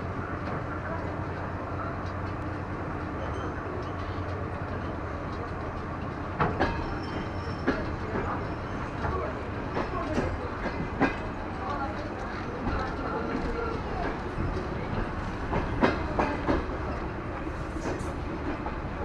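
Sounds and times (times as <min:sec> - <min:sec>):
train engine low drone: 0:00.0 - 0:19.0.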